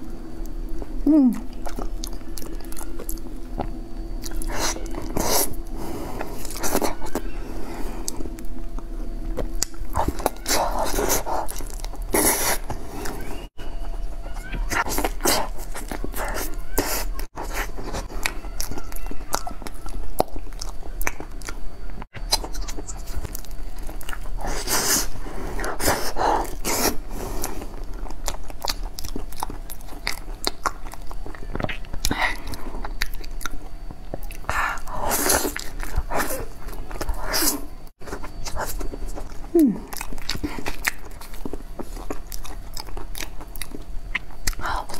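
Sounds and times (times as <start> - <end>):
person chewing and smacking: 0.4 - 7.4, 8.0 - 44.9.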